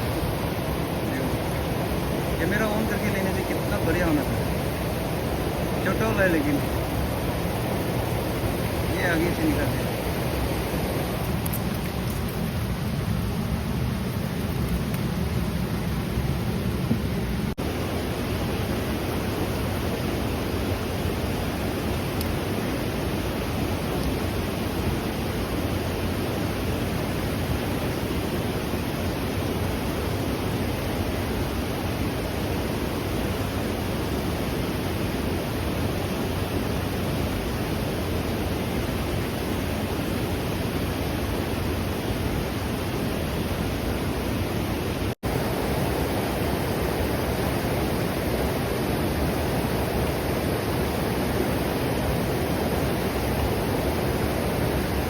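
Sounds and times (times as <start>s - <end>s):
fast-flowing river rushing: 0.0s - 55.0s.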